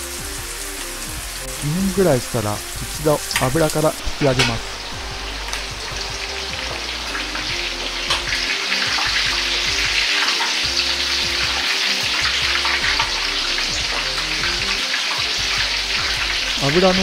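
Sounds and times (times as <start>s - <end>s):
fritters deep-frying in oil: 0.0s - 17.0s.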